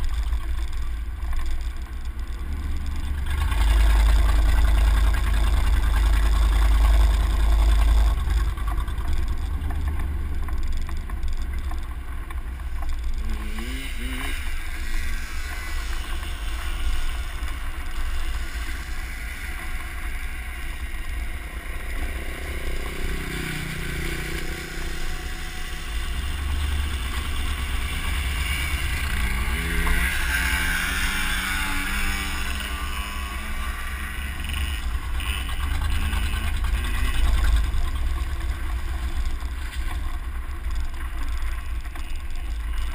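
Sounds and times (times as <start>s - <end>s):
truck engine accelerating: 0.0s - 42.9s.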